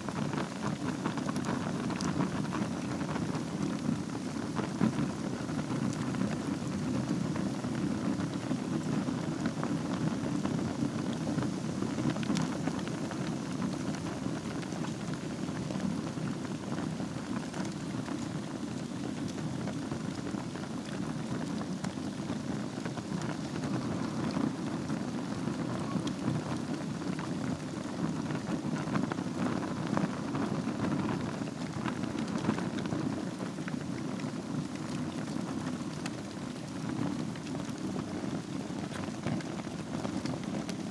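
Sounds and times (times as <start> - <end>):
fire crackling and popping: 0.0 - 40.9
low rush of flame: 0.0 - 40.9.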